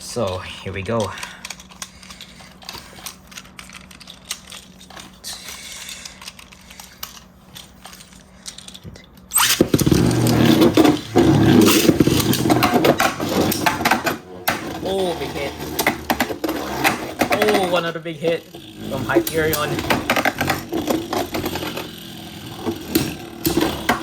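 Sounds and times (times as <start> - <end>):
spinning tops whirring and scraping: 0.1 - 24.0.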